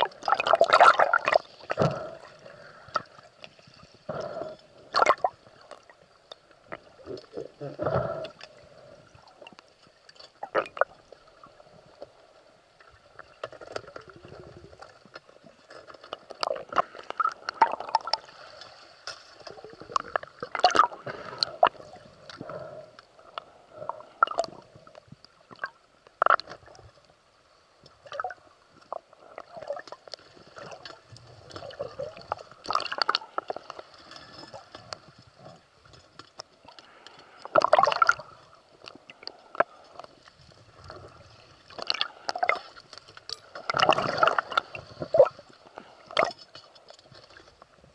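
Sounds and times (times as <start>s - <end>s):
underwater gurgling and bubbling: 0.0s - 9.6s, 10.4s - 18.8s, 19.4s - 27.0s, 28.0s - 35.9s, 37.4s - 39.8s, 43.4s - 46.4s.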